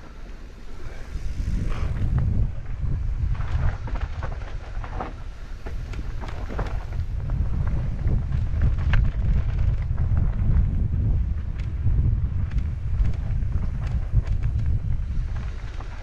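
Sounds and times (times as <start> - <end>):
bike clicking and rattling: 0.0 - 16.0
wind buffeting microphone: 0.0 - 16.0.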